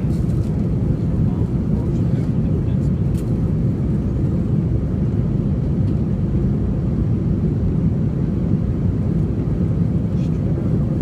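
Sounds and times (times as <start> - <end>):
jet engines and rushing air: 0.0 - 11.0.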